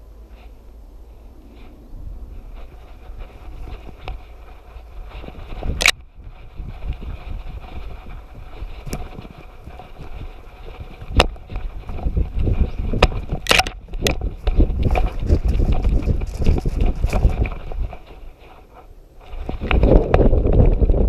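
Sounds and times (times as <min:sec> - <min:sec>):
twigs and grass scraping: 0:00.0 - 0:21.0
wind rumble on microphone: 0:00.0 - 0:21.0.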